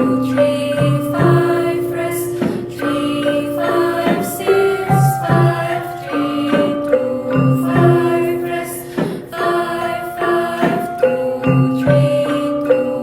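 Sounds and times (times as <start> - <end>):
metallophones struck in melody: 0.0 - 13.0
voices singing: 0.0 - 13.0.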